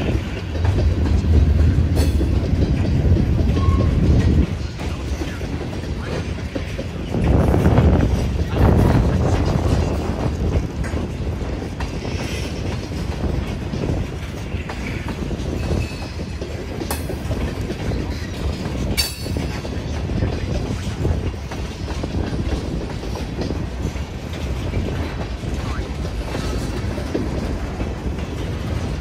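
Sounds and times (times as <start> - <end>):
freight train wheels rumbling: 0.0 - 29.0
wheels clickety-clack over joints: 0.0 - 29.0.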